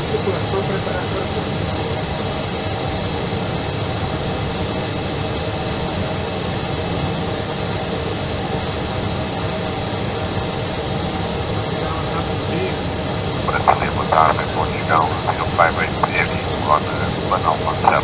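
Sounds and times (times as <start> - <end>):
jet airliner engine drone: 0.0 - 18.0.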